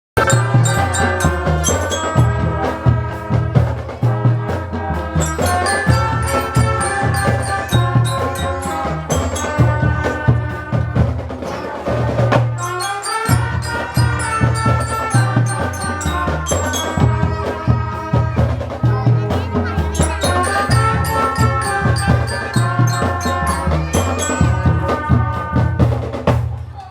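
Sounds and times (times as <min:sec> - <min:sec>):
bell-like melody: 0:00.2 - 0:03.7, 0:05.0 - 0:11.7, 0:12.6 - 0:25.6
pounding drum beat: 0:00.2 - 0:26.9.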